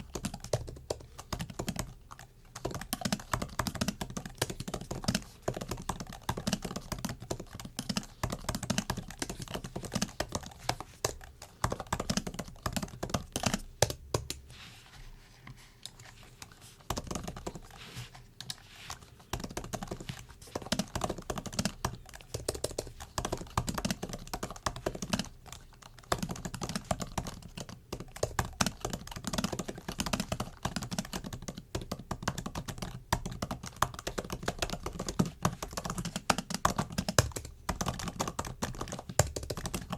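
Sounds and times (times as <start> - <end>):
laptop keyboard typing: 0.0 - 14.4, 16.0 - 39.9.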